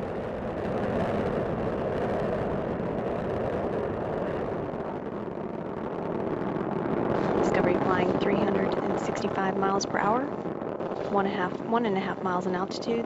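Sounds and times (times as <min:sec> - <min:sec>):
rocket engines roaring: 0:00.0 - 0:13.0.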